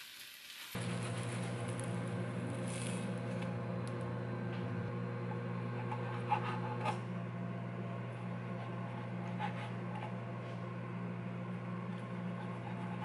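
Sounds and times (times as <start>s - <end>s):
steady low hum: 0.8s - 13.0s.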